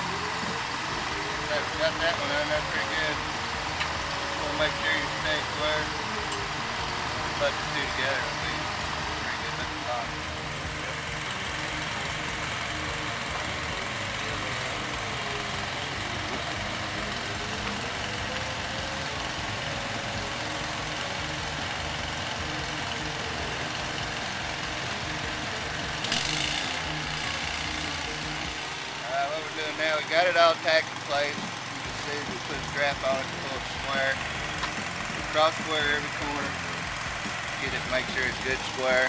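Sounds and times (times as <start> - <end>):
engine running: 0.0 - 39.0
welding arc crackling: 0.0 - 39.0.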